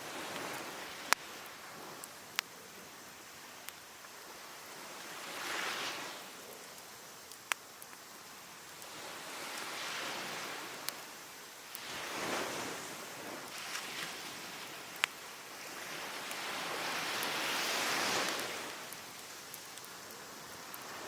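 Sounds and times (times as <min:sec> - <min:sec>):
waves washing onto beach: 0:00.0 - 0:21.0
wood fire popping and crackling: 0:00.0 - 0:21.0.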